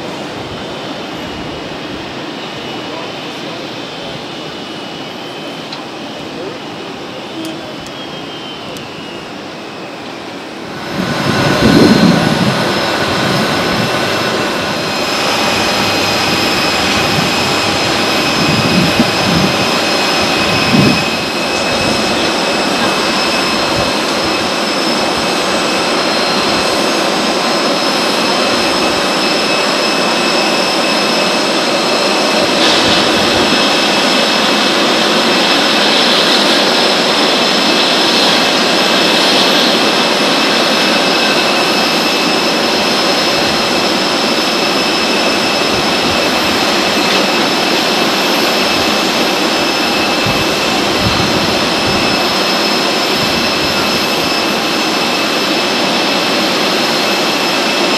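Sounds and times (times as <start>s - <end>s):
jet engines whining: 0.0s - 57.9s.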